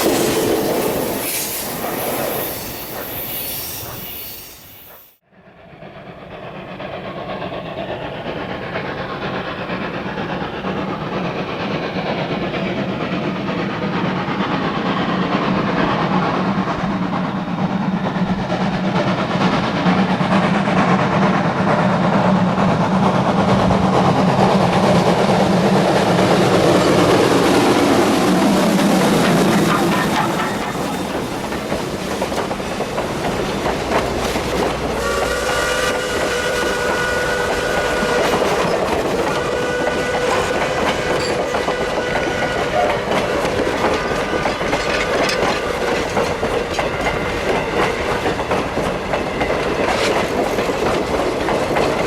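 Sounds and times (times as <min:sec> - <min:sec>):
train passing: 0:00.0 - 0:52.0.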